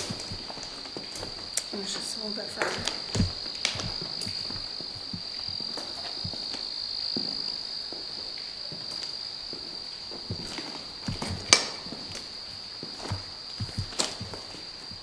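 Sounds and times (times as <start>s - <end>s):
crickets chirring: 0.0s - 15.0s
soft footsteps: 0.0s - 15.0s.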